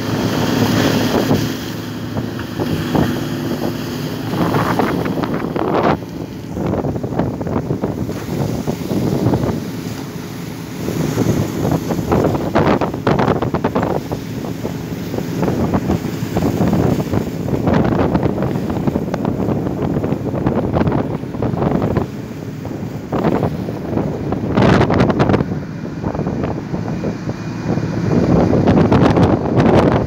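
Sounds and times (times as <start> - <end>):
water splashing along boat hull: 0.0 - 30.0
wind buffeting microphone: 0.0 - 30.0.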